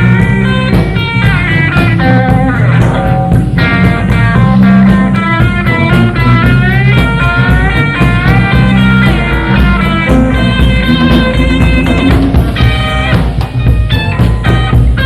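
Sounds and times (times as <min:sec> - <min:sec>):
blues-rock band playing: 0:00.0 - 0:15.0
lead electric guitar bending notes: 0:00.0 - 0:15.0.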